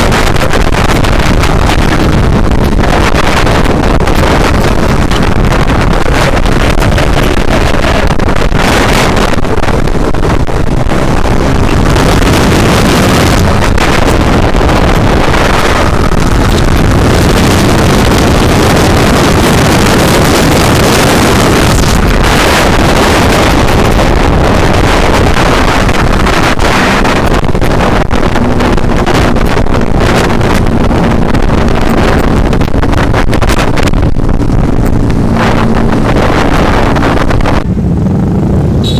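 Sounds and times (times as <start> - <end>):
motorcycle engine drone: 0.0 - 38.9
wind noise on microphone: 0.0 - 38.9.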